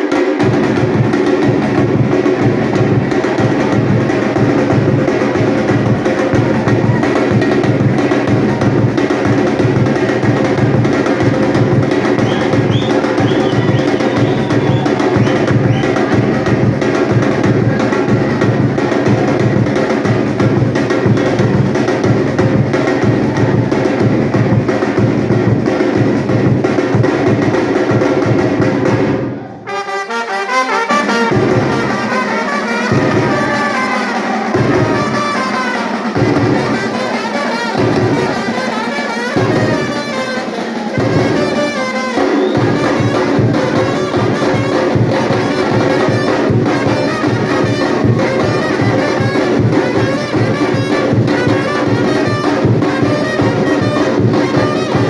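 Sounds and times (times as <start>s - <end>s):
trumpets and trombones: 0.0s - 22.5s, 29.5s - 55.0s
percussion drums: 0.0s - 55.0s.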